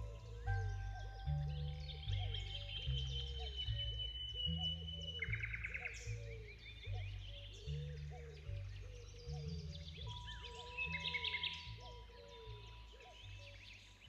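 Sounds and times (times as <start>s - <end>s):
background music with bass line: 0.0s - 14.0s
birds chirping and trilling: 0.0s - 14.0s.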